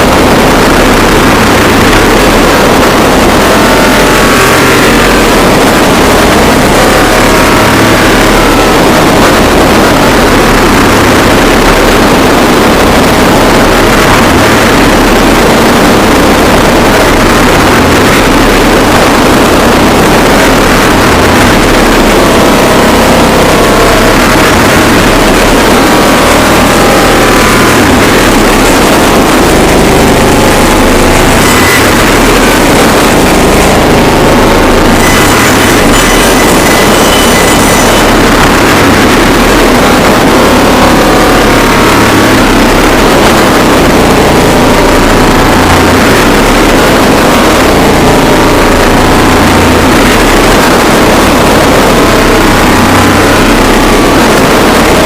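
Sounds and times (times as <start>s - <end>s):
harsh noise music: 0.0s - 55.0s.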